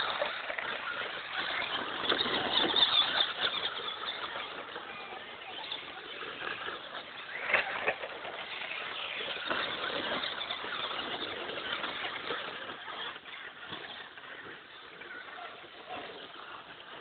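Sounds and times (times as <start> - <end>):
tyre noise: 0.0 - 17.0.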